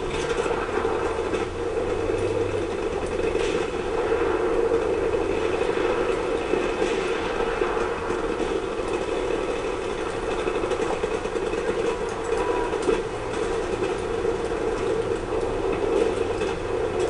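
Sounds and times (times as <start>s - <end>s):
dense game rumble: 0.0s - 17.0s.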